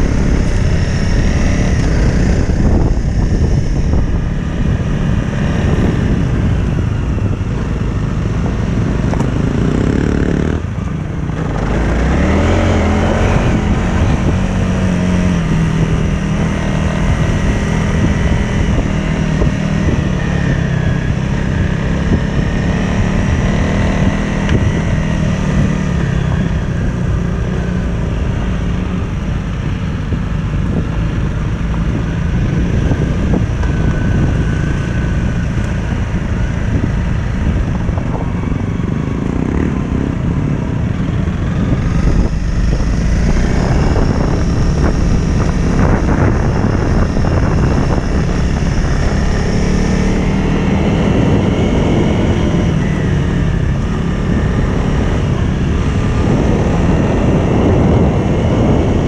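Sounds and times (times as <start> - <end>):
motorcycle engine running: 0.0 - 59.0
wind on microphone: 0.0 - 59.0.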